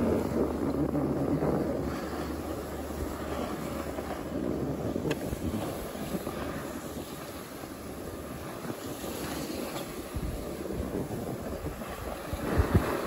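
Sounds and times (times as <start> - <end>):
skis scraping snow: 0.0 - 13.0
wind on microphone: 0.0 - 13.0.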